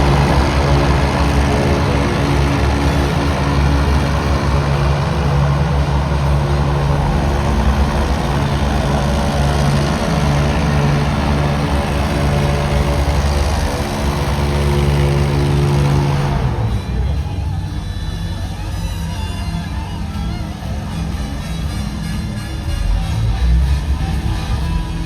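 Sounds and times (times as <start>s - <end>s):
watercraft engines droning: 0.0s - 25.0s.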